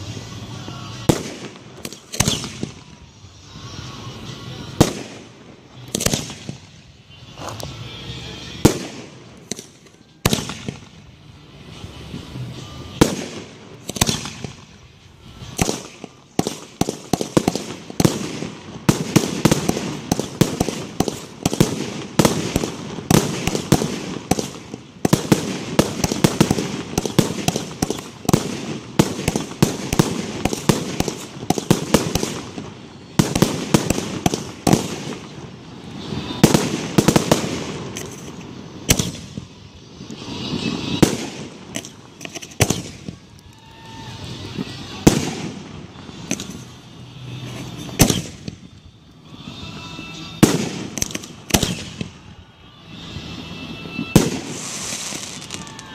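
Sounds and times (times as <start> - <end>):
fireworks bursting in bangs: 0.0 - 7.0, 8.6 - 11.1, 12.0 - 48.8, 49.4 - 52.3, 53.0 - 55.9.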